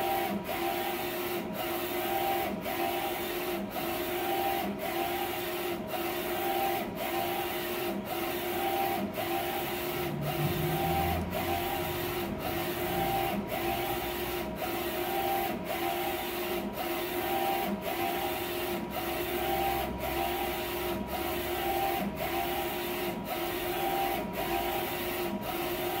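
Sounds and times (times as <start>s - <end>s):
printer carriage whirring: 0.0s - 26.0s
printer hum: 0.0s - 26.0s.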